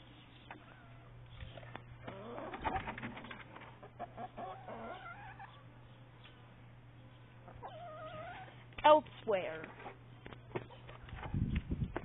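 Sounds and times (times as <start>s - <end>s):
chickens clucking and squawking: 0.0s - 8.7s, 10.5s - 11.6s.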